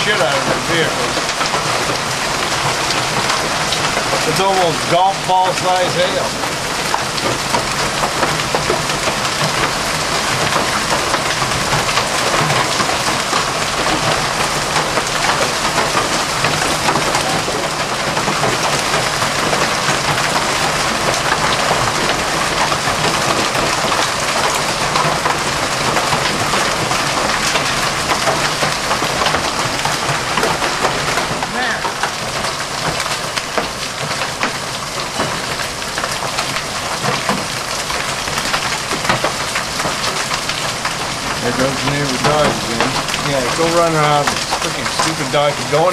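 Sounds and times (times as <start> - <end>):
heavy hail clattering: 0.0 - 45.9.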